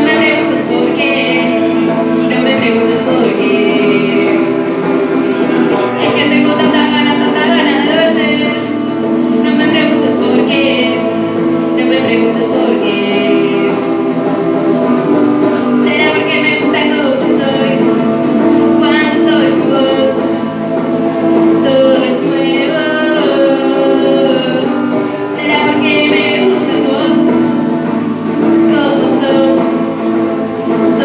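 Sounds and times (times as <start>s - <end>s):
live band playing: 0.0s - 31.0s
person singing: 0.0s - 31.0s.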